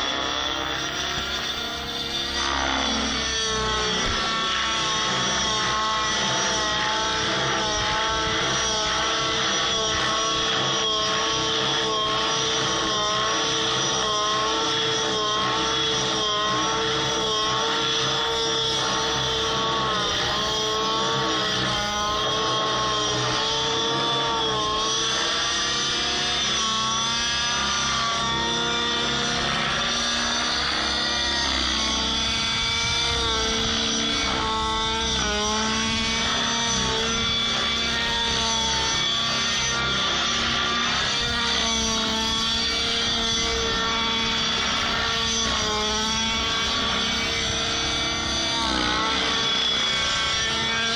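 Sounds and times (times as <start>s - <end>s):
model helicopter engine and rotors: 0.0s - 50.9s.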